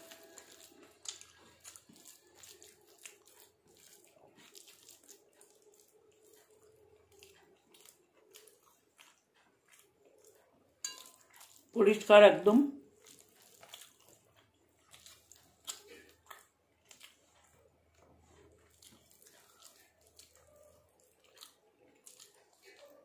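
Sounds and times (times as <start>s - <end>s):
chewing: 0.0s - 11.8s, 12.8s - 23.0s
fingers mixing rice on steel plate: 0.0s - 12.0s, 12.9s - 23.0s.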